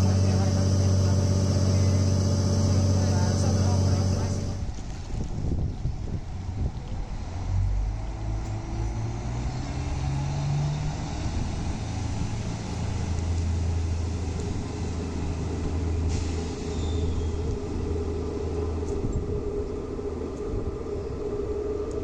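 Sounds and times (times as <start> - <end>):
railbus diesel engine droning: 0.0 - 4.8, 7.1 - 22.0.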